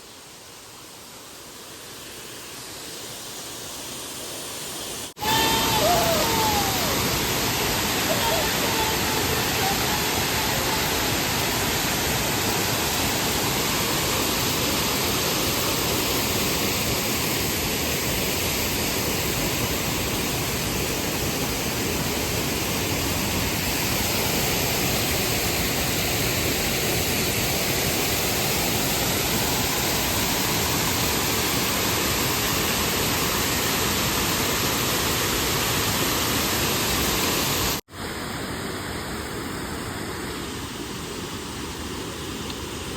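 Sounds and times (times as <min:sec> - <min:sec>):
waterfall rushing: 0:00.1 - 0:42.9.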